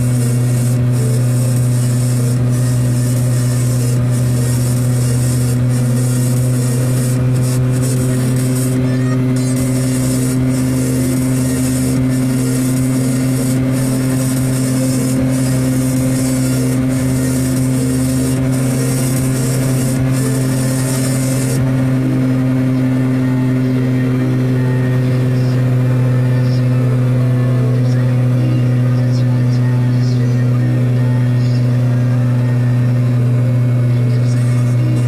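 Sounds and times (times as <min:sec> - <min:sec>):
small two-stroke engine droning: 0:00.0 - 0:35.0.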